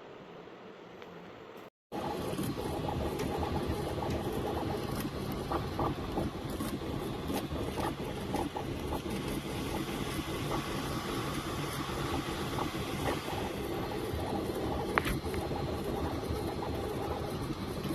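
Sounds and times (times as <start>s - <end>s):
printer motor and fan noise: 0.9s - 17.9s.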